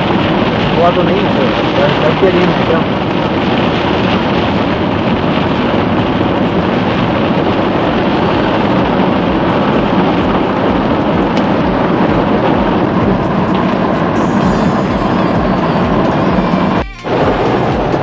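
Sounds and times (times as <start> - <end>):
car engine: 0.0 - 18.0
heavy rain on car roof: 0.0 - 18.0
tyre noise on wet road: 0.0 - 18.0.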